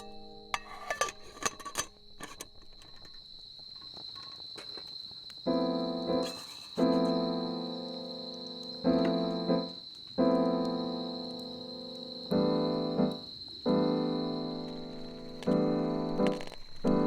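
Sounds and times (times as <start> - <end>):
piano background music: 0.0 - 2.2, 5.5 - 17.0
crickets trilling: 0.0 - 17.0.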